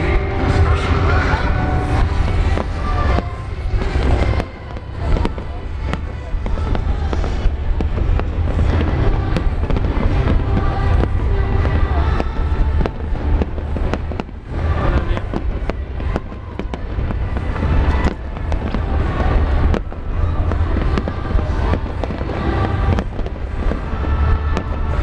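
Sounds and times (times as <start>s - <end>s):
fireworks bangs and crackling: 0.0s - 25.0s
low booming rumble: 0.0s - 25.0s.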